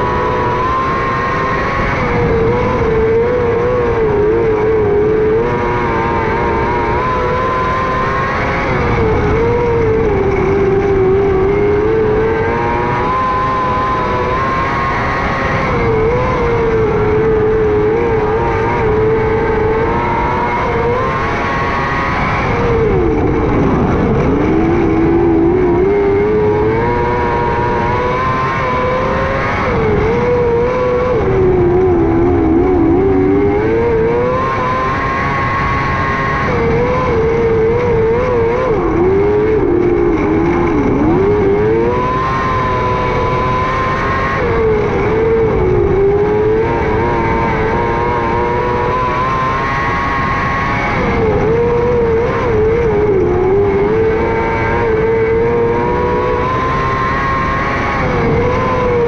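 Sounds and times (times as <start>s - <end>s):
racing car engine running hard: 0.0s - 59.0s.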